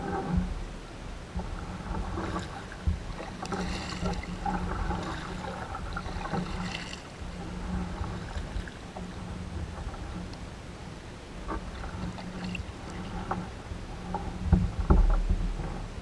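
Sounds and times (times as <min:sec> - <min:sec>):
paddle splashing water: 0:00.0 - 0:16.0
wind rumble on microphone: 0:00.0 - 0:16.0.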